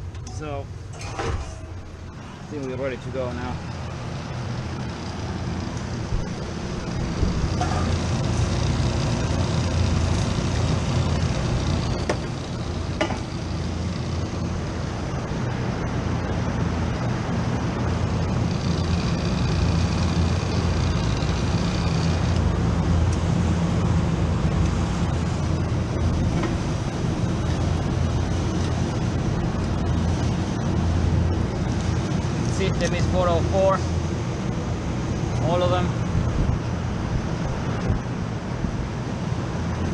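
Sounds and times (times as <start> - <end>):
machinery motor drone: 0.0 - 39.9.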